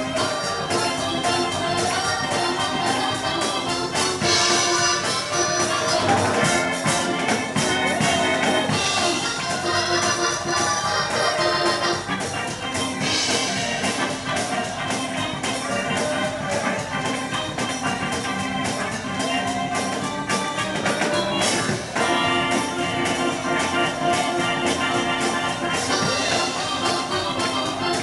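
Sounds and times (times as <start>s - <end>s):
steady drum beat: 0.0s - 28.0s
sustained organ chords: 0.0s - 28.0s.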